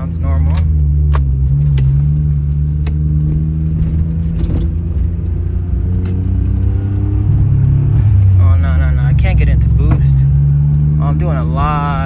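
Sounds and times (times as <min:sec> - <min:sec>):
small car engine running: 0:00.0 - 0:12.0.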